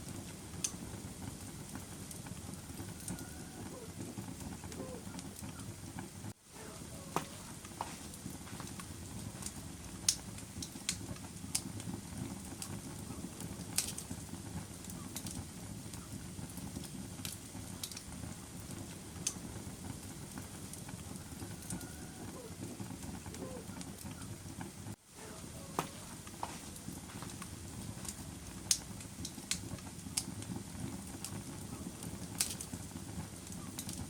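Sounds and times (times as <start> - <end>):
fire crackles and pops: 0.0 - 34.0
fire flames rushing: 0.0 - 34.0.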